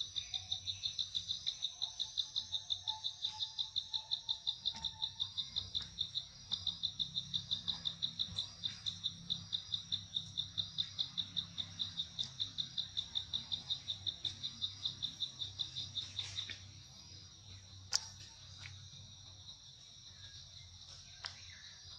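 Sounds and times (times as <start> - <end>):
insect chirping: 0.0 - 21.9.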